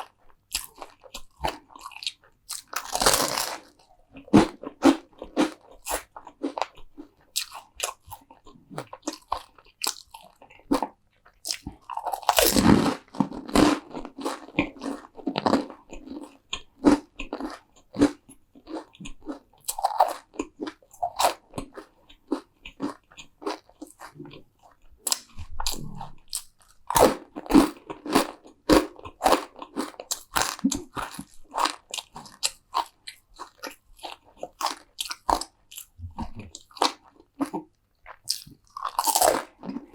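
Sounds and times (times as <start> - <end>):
crunchy food chewing: 0.0 - 39.9.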